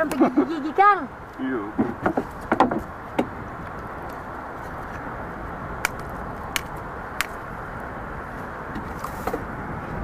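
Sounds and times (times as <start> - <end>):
wind and sea noise: 0.0 - 10.0.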